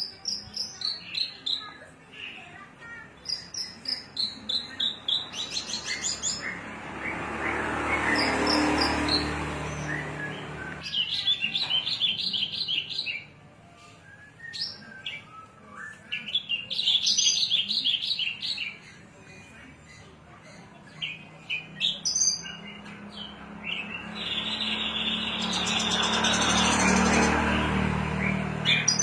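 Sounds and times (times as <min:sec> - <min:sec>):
bird chirping song: 0:03.0 - 0:29.0.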